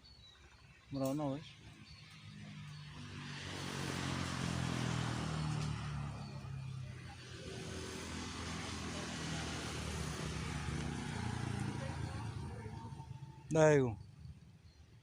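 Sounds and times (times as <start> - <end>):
vehicle engine passing by: 1.7 - 14.6.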